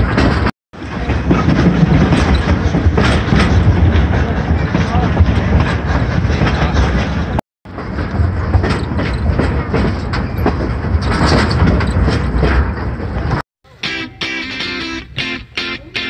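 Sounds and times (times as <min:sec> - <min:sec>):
train wheels clicking over rails: 0:00.0 - 0:13.4.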